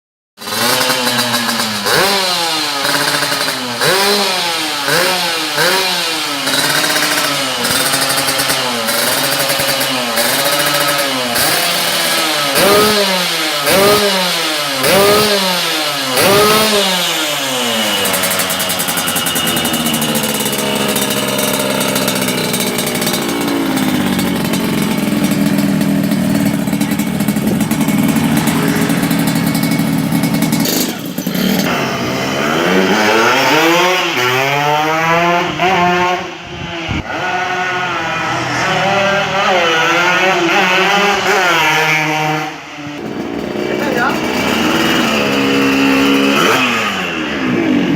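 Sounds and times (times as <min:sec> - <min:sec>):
two-stroke motorcycle engine revving: 0:00.4 - 0:47.9.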